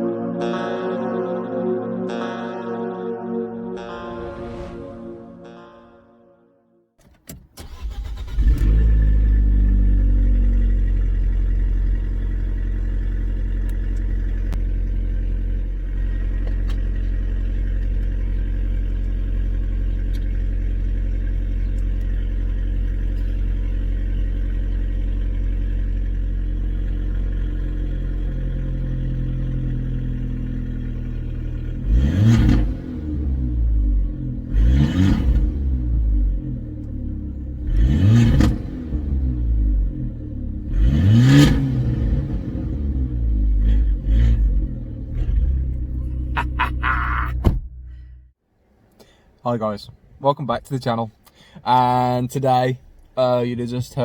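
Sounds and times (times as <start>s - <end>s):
car engine starting and idling: 7.0s - 54.0s.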